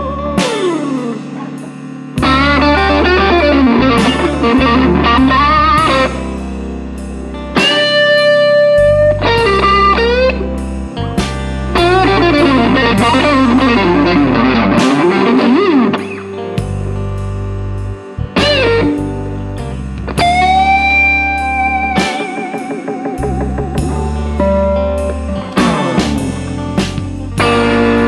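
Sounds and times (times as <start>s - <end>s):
bass line: 0.0s - 28.0s
electric guitar lead: 0.0s - 28.0s.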